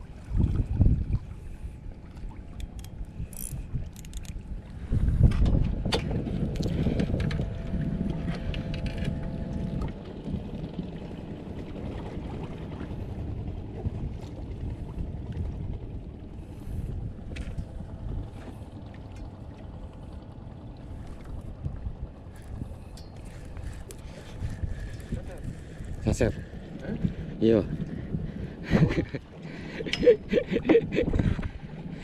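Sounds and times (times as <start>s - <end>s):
water noise: 0.0s - 32.0s
wind buffeting microphone: 0.0s - 32.0s.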